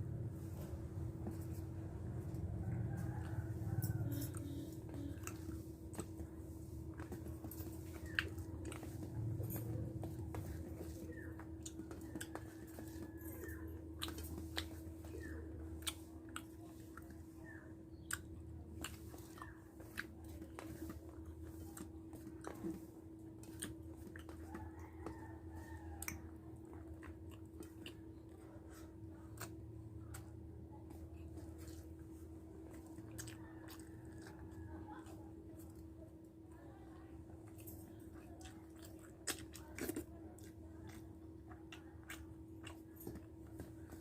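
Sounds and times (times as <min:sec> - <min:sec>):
low hum: 0:00.0 - 0:44.0
person chewing and smacking: 0:00.1 - 0:44.0.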